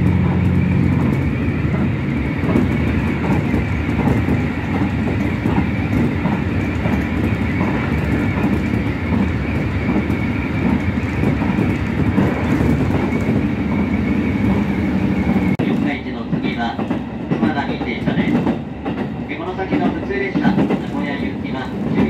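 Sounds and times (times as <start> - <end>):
diesel railcar rumbling: 0.0 - 22.0.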